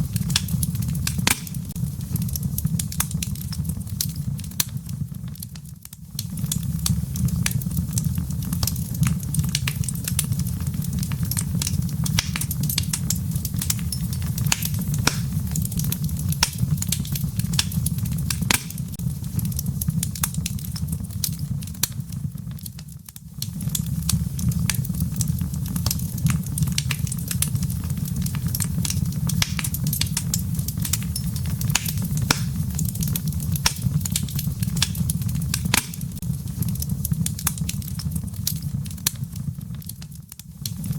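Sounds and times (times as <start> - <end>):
low rush of flames: 0.0 - 40.9
wood crackling and popping: 0.0 - 40.9.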